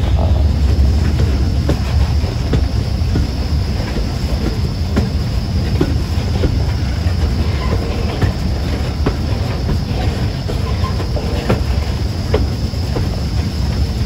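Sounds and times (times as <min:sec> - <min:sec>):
steam train rumble: 0:00.0 - 0:14.0
wheels clicking over rail joints: 0:00.0 - 0:14.0.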